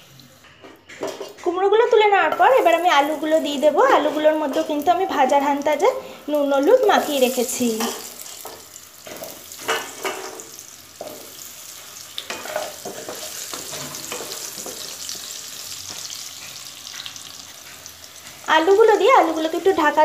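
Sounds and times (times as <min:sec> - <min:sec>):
oil sizzling and spitting: 0:02.4 - 0:20.0.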